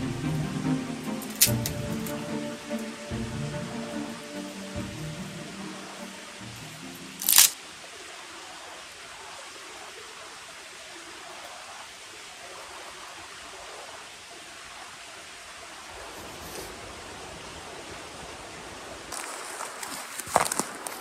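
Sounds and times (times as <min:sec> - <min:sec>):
creek rushing: 0:00.0 - 0:21.0.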